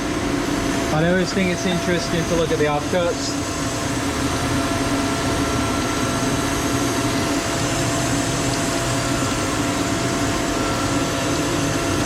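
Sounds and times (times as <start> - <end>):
workshop machinery humming: 0.0 - 12.0.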